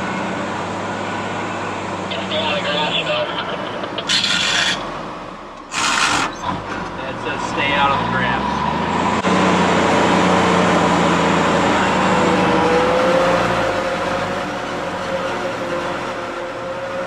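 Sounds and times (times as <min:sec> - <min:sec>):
forage harvester droning: 0:00.0 - 0:16.6.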